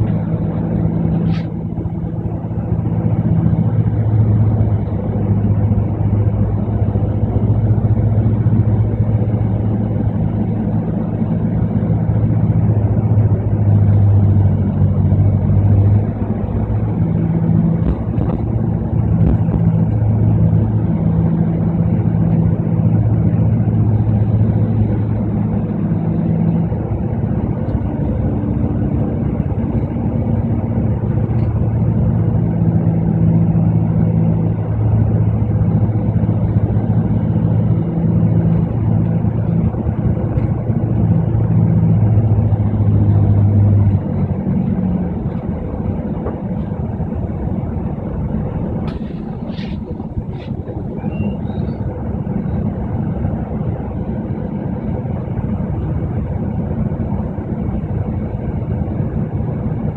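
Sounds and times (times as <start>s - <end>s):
bus engine humming: 0.0s - 59.9s
road noise: 0.0s - 59.9s.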